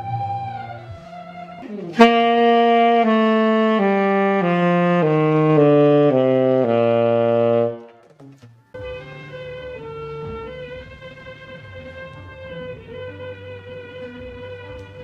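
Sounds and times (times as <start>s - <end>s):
saxophone playing falling scale: 0.0s - 15.0s.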